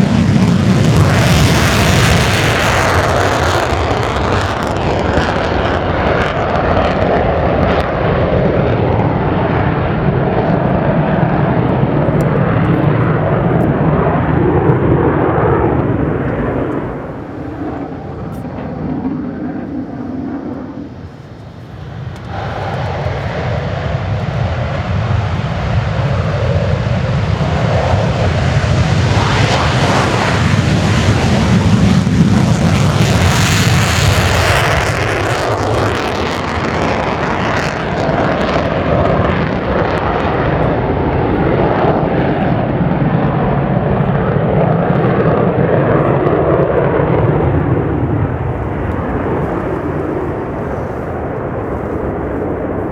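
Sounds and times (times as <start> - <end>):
jet fighter flying past: 0.0 - 52.9.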